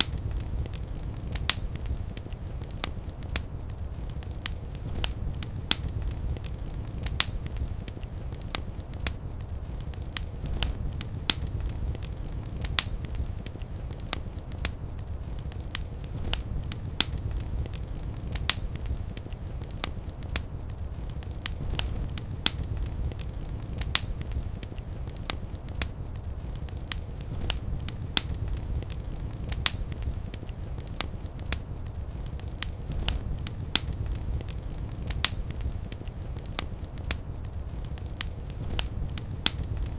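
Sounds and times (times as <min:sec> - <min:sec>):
low rumble of flames: 0:00.0 - 0:39.9
wood fire crackles and pops: 0:00.0 - 0:39.9.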